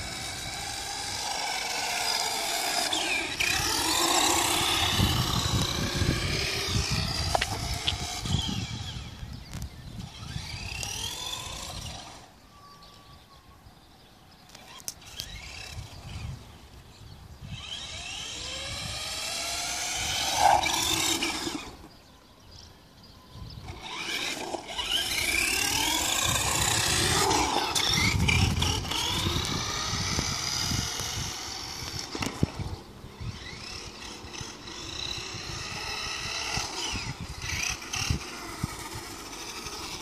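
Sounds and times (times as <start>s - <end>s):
toy car motor whining: 0.0s - 13.4s, 14.5s - 16.8s, 17.4s - 22.4s, 23.3s - 40.0s.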